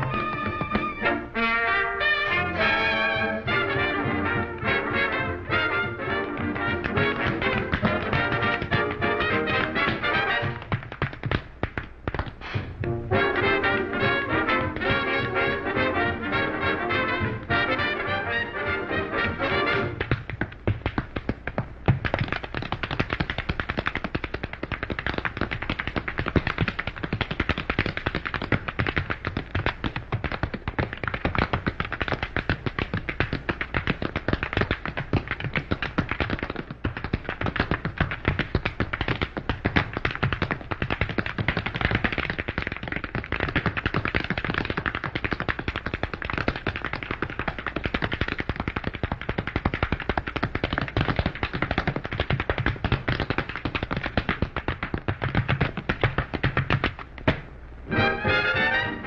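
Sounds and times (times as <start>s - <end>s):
tap shoes on hard floor: 0.0s - 1.3s, 2.7s - 57.6s.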